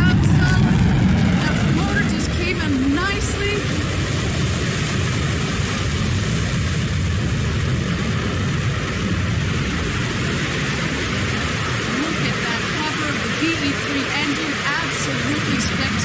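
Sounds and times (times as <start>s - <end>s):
rocket engine deep rumble: 0.0s - 16.0s.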